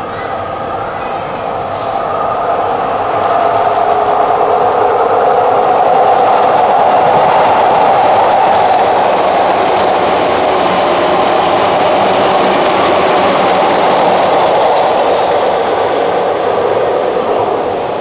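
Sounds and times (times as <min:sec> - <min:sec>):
train wheels rushing on rail: 0:00.0 - 0:18.0.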